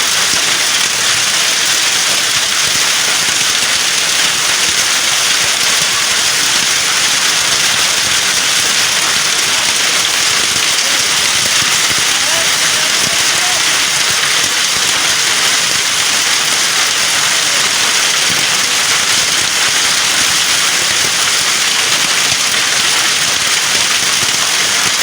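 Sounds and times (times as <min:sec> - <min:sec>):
heavy hail falling: 0:00.0 - 0:25.0.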